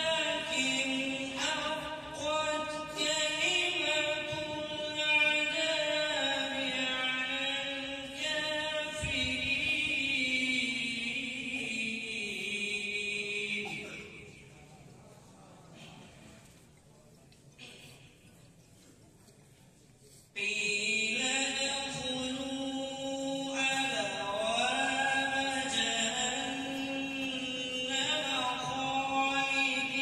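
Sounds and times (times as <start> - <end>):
man chanting melodically: 0.0 - 14.9, 20.4 - 30.0.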